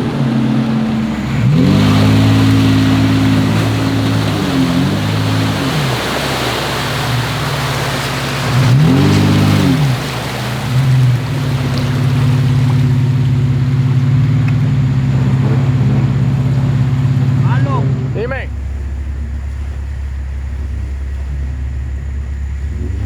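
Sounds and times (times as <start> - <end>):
engine revving under load: 0.0 - 23.0
splashing water: 0.0 - 23.0.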